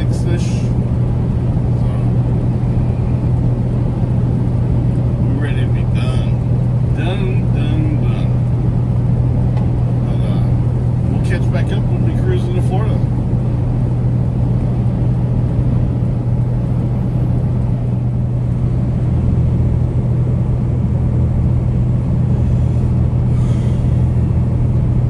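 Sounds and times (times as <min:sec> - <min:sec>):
road rumble: 0:00.0 - 0:25.0
truck engine hum: 0:00.0 - 0:25.0.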